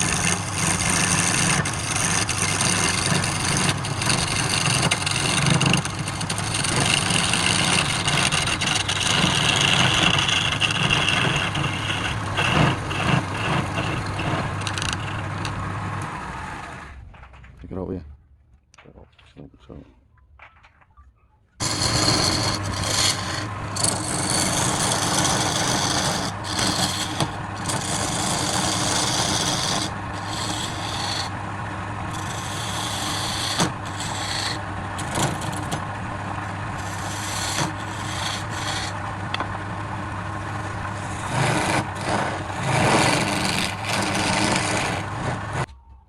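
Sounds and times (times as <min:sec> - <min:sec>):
lathe motor hum: 0:00.0 - 0:16.9, 0:21.6 - 0:45.7
tool scraping spinning wood: 0:00.0 - 0:17.0, 0:21.6 - 0:45.7.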